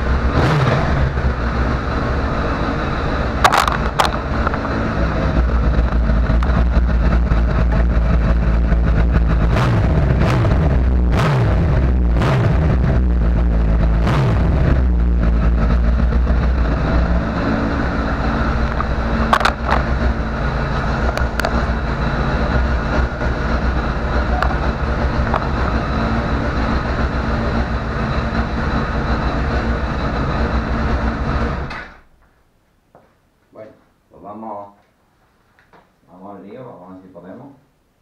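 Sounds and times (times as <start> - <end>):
motorcycle engine revving and idling: 0.0 - 32.1.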